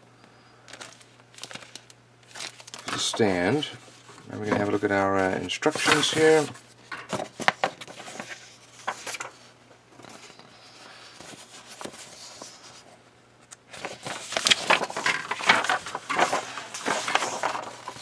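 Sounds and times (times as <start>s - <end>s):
paper crinkling and rustling: 0.7s - 18.0s.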